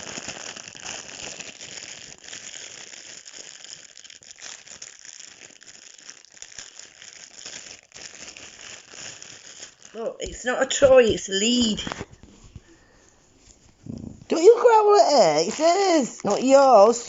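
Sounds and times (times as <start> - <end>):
plastic packaging crinkling: 0.0 - 13.8, 15.0 - 17.0.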